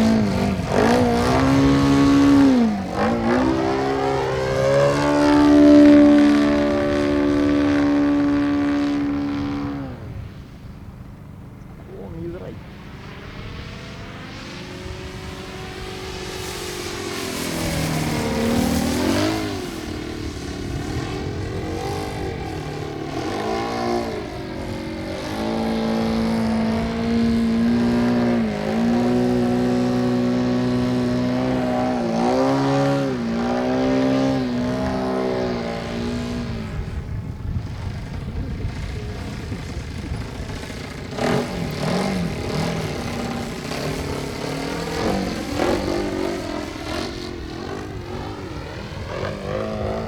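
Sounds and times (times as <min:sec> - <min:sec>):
model airplane engine buzzing: 0:00.0 - 0:50.0.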